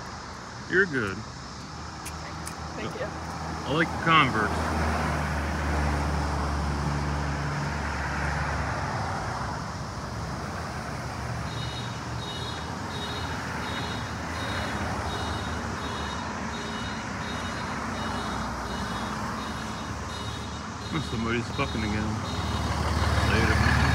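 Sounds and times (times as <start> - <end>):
large vehicle engine rumbling: 0.0 - 23.9
road traffic noise: 0.0 - 23.9.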